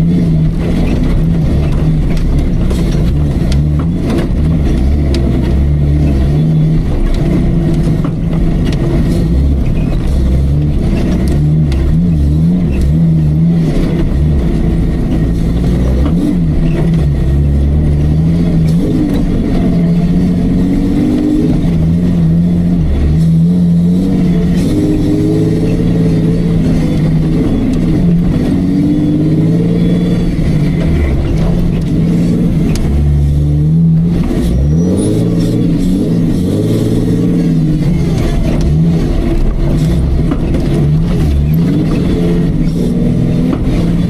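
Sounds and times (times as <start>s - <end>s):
engine revving: 0.0s - 44.0s.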